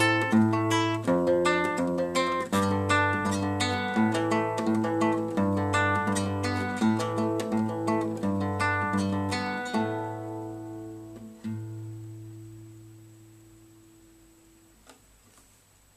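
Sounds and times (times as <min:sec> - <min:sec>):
acoustic guitar plucked notes: 0:00.0 - 0:14.8.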